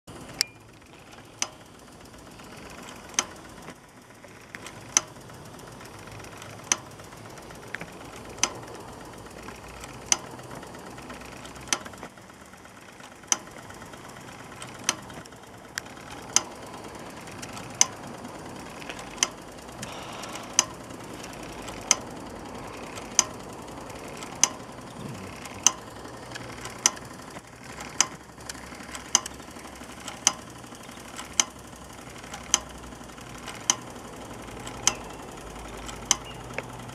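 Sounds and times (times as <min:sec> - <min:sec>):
small steam engine running: 0:00.1 - 0:36.9.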